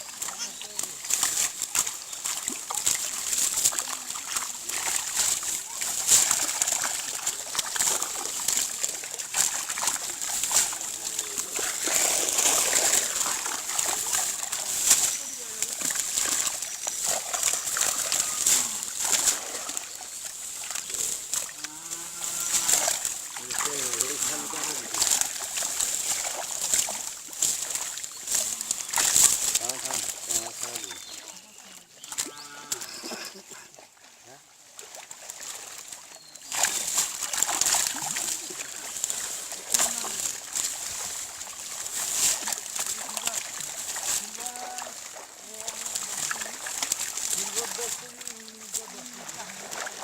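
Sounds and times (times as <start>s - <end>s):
water splashing: 0.0s - 50.0s.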